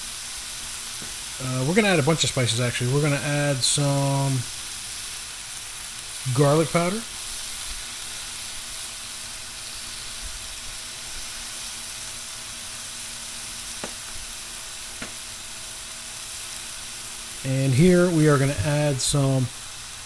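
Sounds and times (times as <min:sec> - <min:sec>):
beef sizzling on a griddle: 0:00.0 - 0:20.0.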